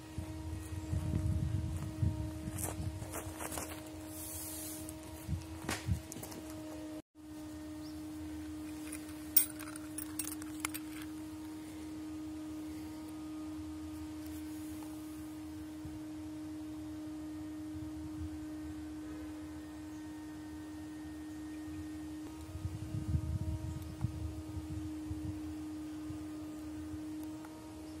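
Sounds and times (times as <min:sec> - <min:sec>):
steady low tone: 0:00.0 - 0:28.0.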